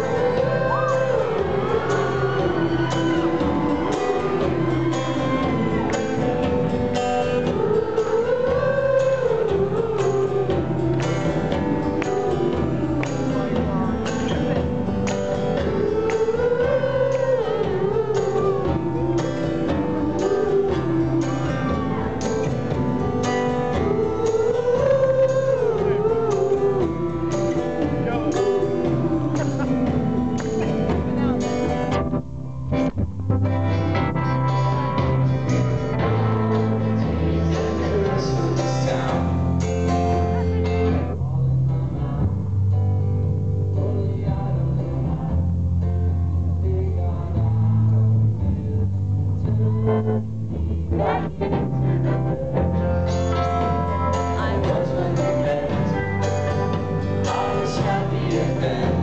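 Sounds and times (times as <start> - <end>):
male lead vocal: 0.0 - 31.9, 33.8 - 42.8, 43.5 - 59.0
strummed acoustic guitar: 0.0 - 49.8, 50.5 - 59.0
drums: 0.0 - 59.0
electric bass: 0.0 - 59.0.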